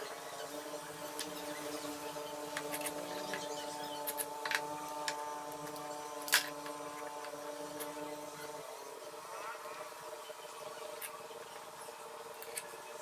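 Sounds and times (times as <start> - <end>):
steady multi-tone hum: 0.0 - 13.0.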